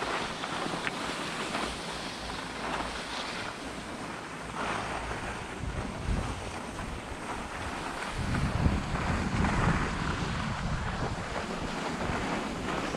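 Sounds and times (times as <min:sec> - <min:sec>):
skis scraping over snow: 0:00.0 - 0:12.9
wind buffeting microphone: 0:00.0 - 0:12.9.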